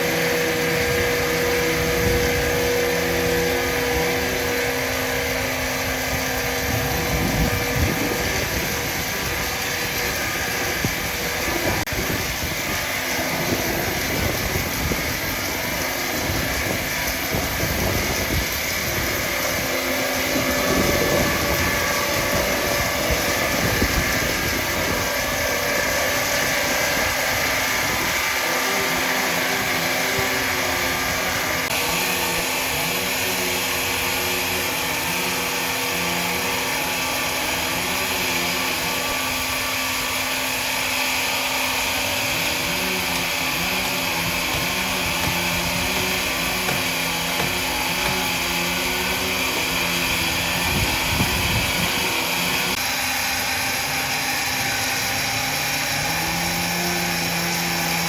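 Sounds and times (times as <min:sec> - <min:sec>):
woodworking machinery hum and whine: 0:00.0 - 0:58.0.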